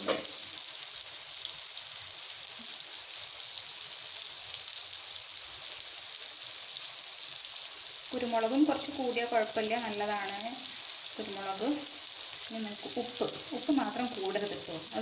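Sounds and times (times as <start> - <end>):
rice sizzling in butter: 0.0 - 15.0.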